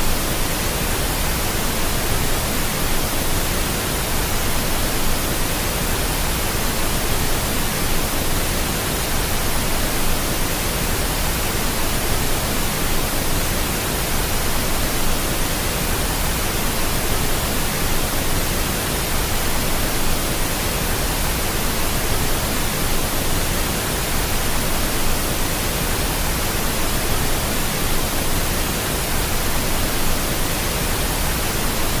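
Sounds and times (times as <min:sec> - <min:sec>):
pink noise hiss: 0:00.0 - 0:32.0.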